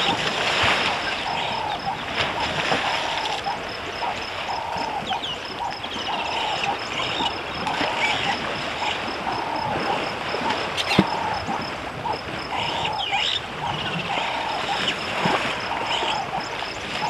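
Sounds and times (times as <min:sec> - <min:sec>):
elephants splashing in water: 0:00.0 - 0:17.0
mid-pitched chirping call: 0:01.0 - 0:16.8.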